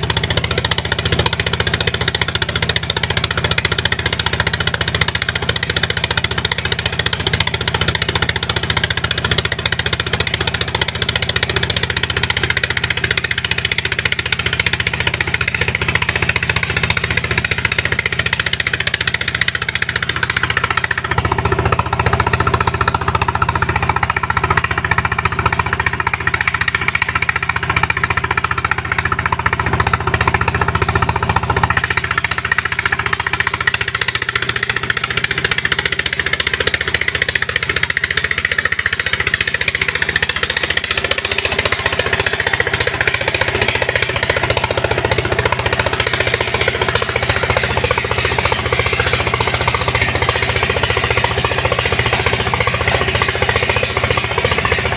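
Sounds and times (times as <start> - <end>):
pump engine running: 0.0 - 54.9.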